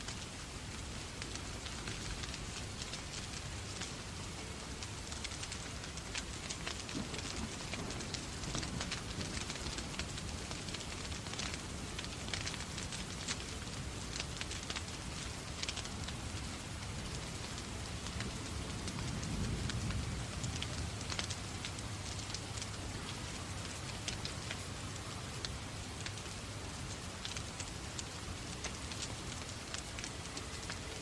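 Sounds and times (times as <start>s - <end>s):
steady rain: 0.0s - 31.0s
wood fire crackling: 0.0s - 31.0s.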